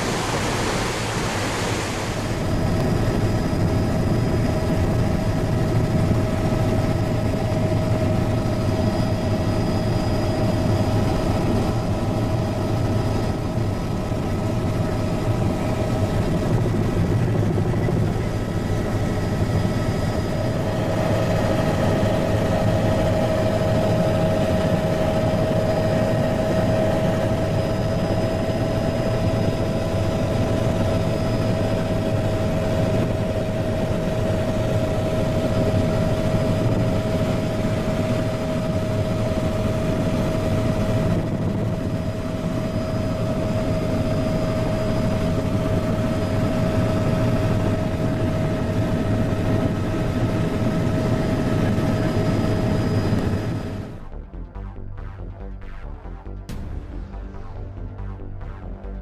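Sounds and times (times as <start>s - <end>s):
aircraft engine droning: 0.0s - 59.0s.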